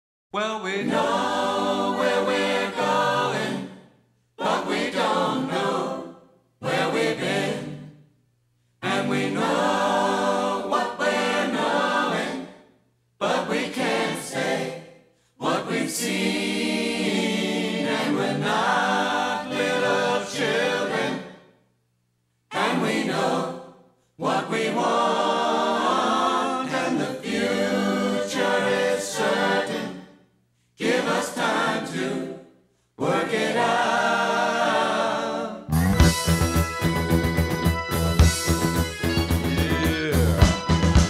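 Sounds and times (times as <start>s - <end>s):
choir singing a cappella: 0.6s - 8.2s, 8.8s - 21.7s, 22.5s - 36.4s.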